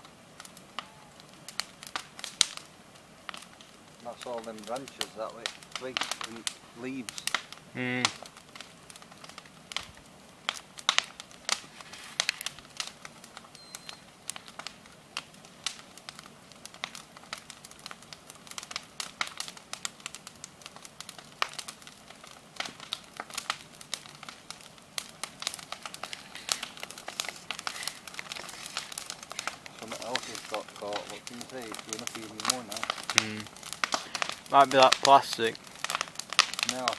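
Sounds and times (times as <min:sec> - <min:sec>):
bonfire crackling and popping: 0:00.0 - 0:36.9.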